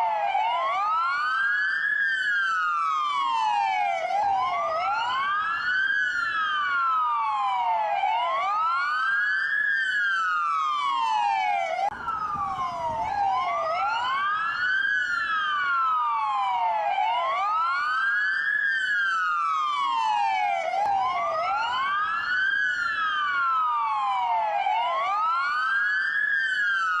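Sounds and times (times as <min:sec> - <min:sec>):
police car dual wail siren: 0:00.0 - 0:27.0.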